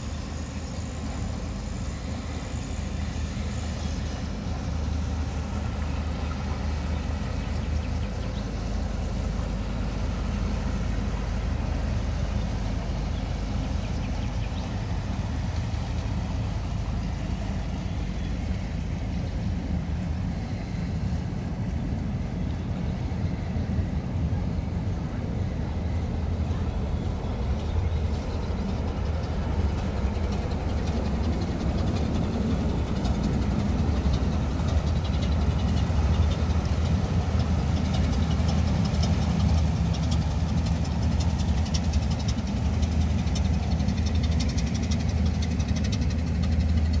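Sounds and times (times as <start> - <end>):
boat engine droning: 0.0 - 47.0
water churning along hull: 0.0 - 47.0.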